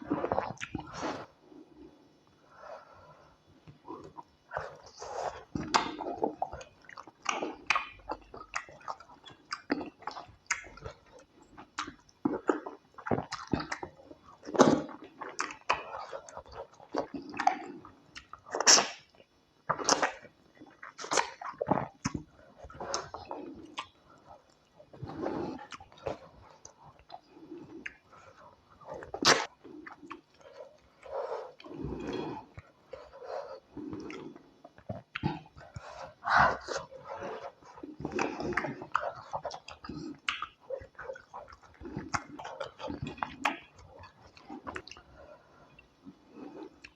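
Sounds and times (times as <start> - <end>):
wet chewing and mouth smacks: 0.1 - 1.0, 3.6 - 46.9.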